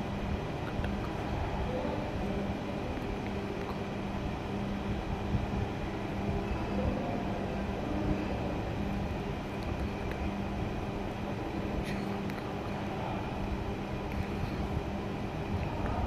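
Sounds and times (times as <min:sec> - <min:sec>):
constant hum: 0:00.0 - 0:16.0
low background rumble: 0:00.0 - 0:16.0.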